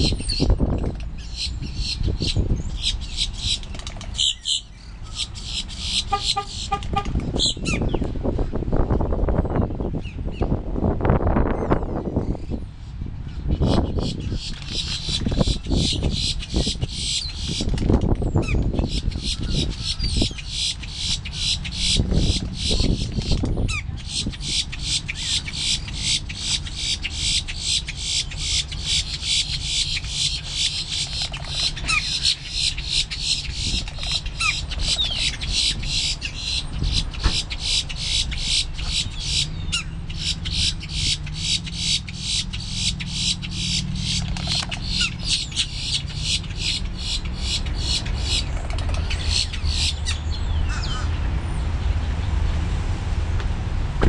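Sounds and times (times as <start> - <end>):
grackle calls: 1.2 - 7.8, 13.6 - 51.2.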